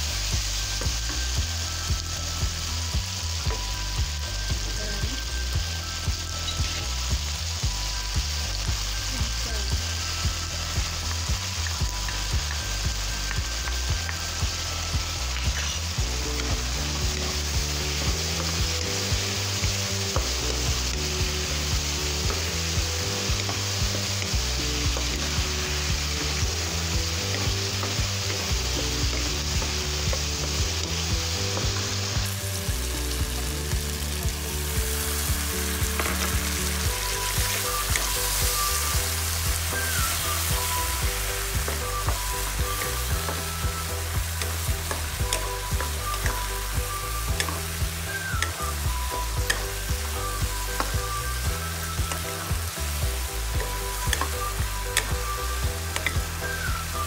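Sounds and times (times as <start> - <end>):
food sizzling in a wok: 0.0 - 57.0.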